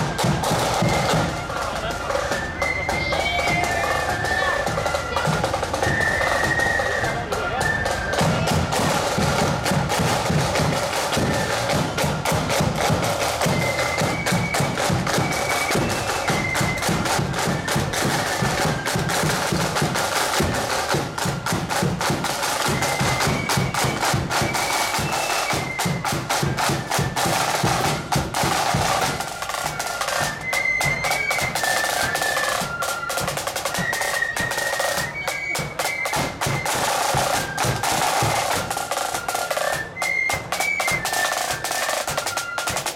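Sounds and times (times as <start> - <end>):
high flute melody: 0.0 - 42.9
side drums rattling and rolling: 0.0 - 42.9.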